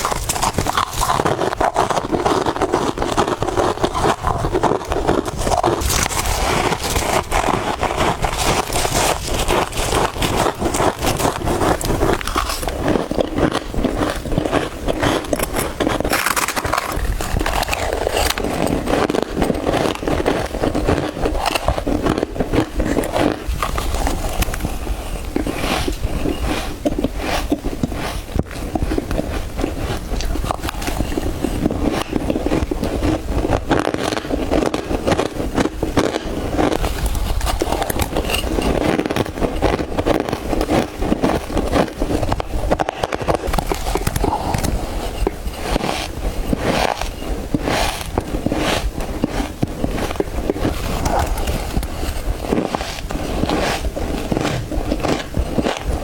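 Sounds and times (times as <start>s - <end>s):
frost being chewed: 0.0s - 56.0s.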